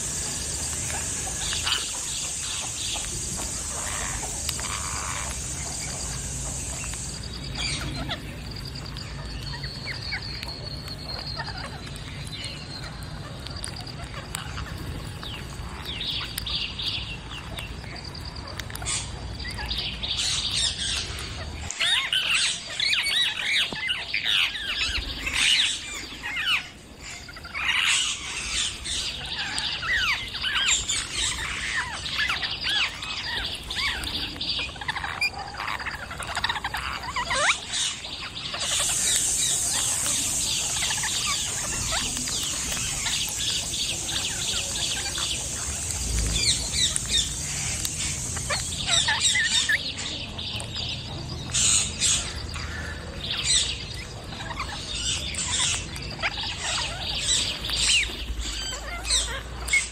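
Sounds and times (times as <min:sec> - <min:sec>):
parrots squawking and chirping: 0:00.0 - 0:59.9.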